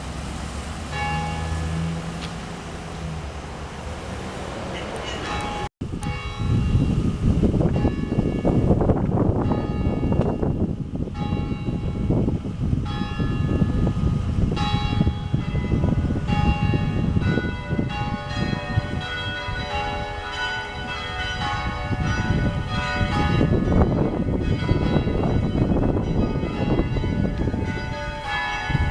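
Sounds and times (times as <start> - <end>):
church bells ringing: 0.9 - 2.2, 4.7 - 28.9.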